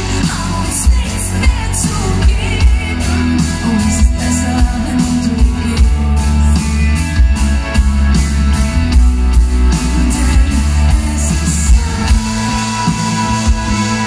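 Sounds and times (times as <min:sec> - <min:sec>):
live pop-rock band: 0:00.0 - 0:14.0.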